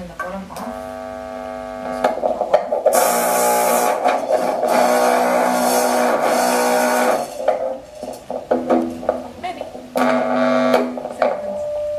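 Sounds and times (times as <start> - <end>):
harsh rattling buzz: 0.0 - 11.9
pitched metallic tones: 0.0 - 11.9.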